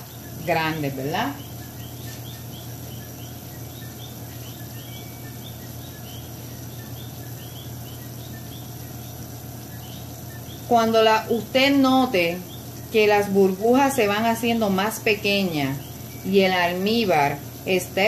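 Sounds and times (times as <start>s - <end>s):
insects chirping: 0.0s - 18.0s
steady low hum: 0.0s - 18.0s.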